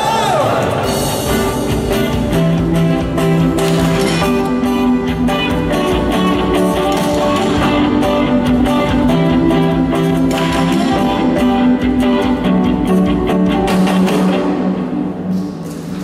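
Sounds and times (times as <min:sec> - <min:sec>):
live band playing: 0:00.0 - 0:16.0
strummed guitar: 0:00.0 - 0:16.0.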